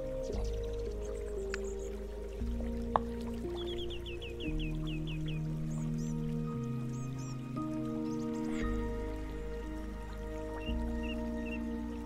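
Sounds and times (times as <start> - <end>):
faint high chirps and ticks: 0.0 - 12.0
gentle music of held notes: 0.0 - 12.0.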